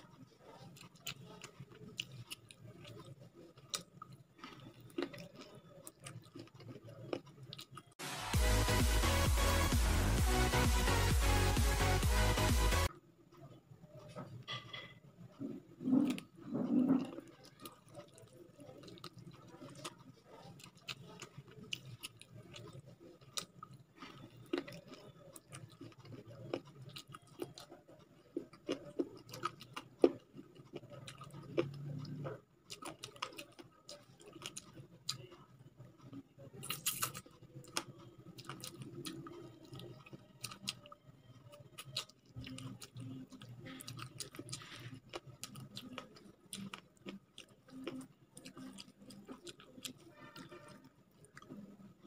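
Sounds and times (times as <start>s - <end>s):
person chewing with mouth clicks: 0.1s - 8.0s, 16.0s - 51.9s.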